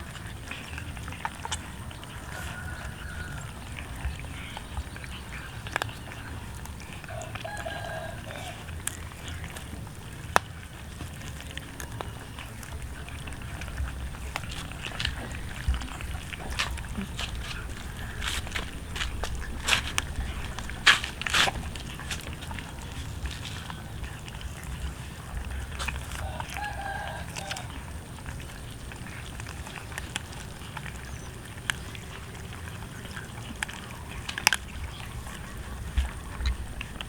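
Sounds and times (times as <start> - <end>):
cats chewing crunchily: 0.0 - 37.0.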